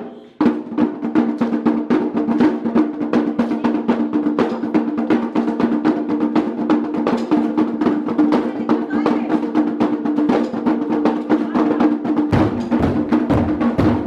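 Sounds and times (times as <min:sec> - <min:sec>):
drum ensemble fast rhythm: 0:00.0 - 0:14.0.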